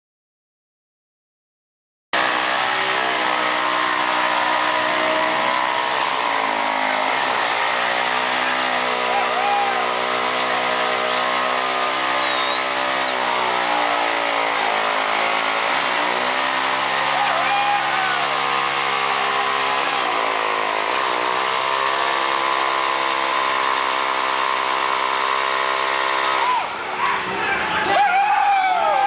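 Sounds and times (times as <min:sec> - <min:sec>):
motorcycle engine revving: 0:02.2 - 0:26.6.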